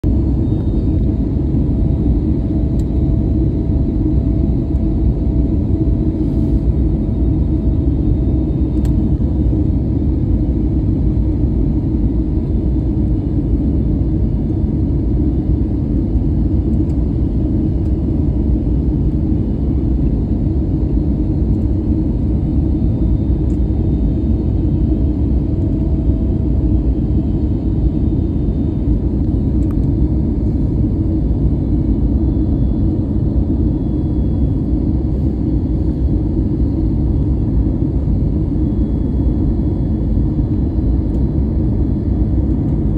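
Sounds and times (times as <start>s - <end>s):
airliner engines rumbling: 0.0s - 42.9s.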